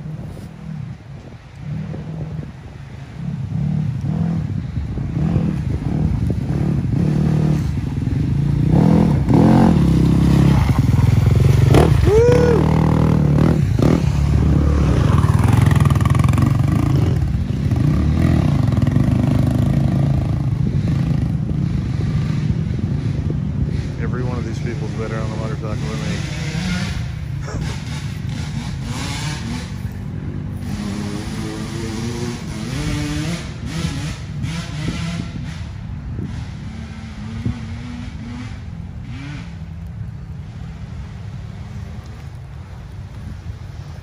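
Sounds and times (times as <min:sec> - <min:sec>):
dirt bike engine revving: 0:01.7 - 0:39.7.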